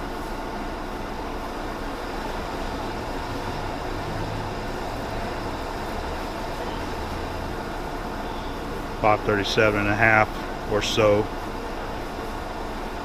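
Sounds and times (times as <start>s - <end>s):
machine low hum: 0.0s - 13.0s.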